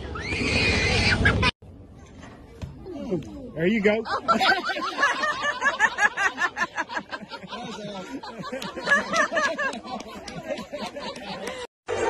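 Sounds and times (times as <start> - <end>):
people laughing and chattering: 1.1 - 12.0.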